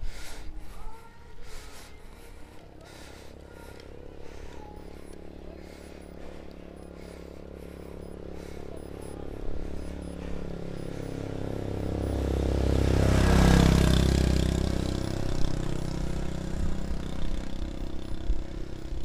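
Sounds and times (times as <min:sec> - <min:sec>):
road noise: 0:00.0 - 0:19.0
vehicle engine passing: 0:00.0 - 0:19.0
wind: 0:00.0 - 0:19.0.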